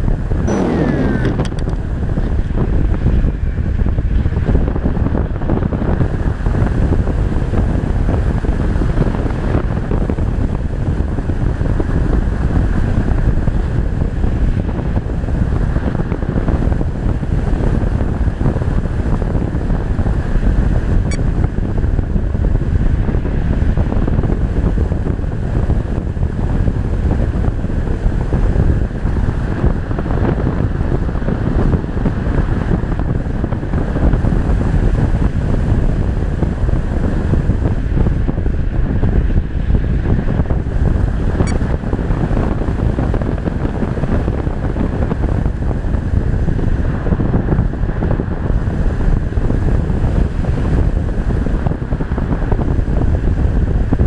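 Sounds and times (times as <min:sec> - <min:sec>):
wind rushing on camera: 0:00.0 - 0:54.0.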